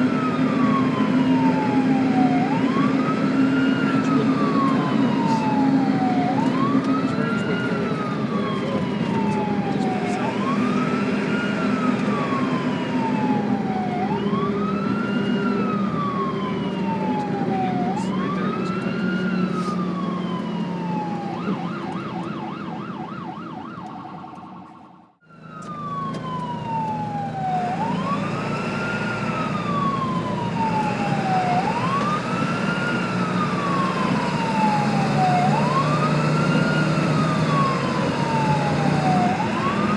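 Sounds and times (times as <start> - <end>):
ambulance siren wailing: 0.0 - 39.9
vehicle engine hum: 0.0 - 39.9.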